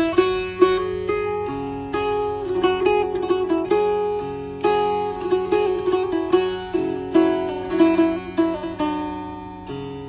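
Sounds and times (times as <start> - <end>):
plucked lute melody: 0.0 - 10.0.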